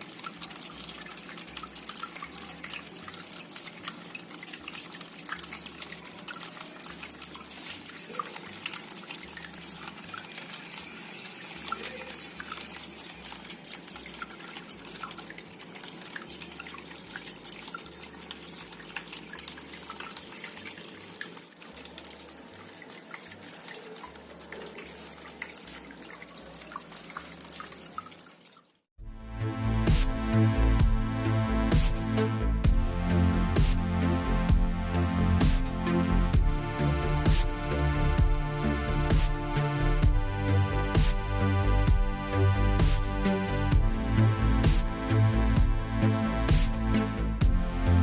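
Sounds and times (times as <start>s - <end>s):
fountain water dripping and splashing: 0.0s - 28.9s, 29.9s - 48.0s.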